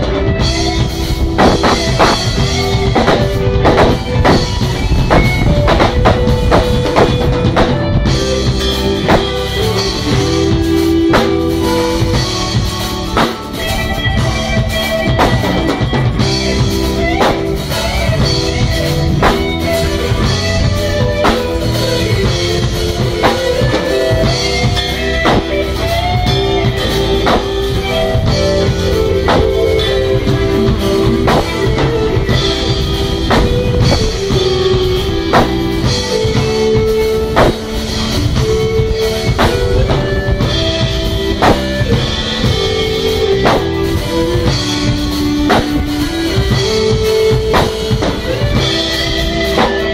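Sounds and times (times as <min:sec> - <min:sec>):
drum kit steady beat: 0:00.0 - 0:49.9
guitar: 0:00.0 - 0:49.9
keyboards playing chords and bass: 0:00.0 - 0:49.9.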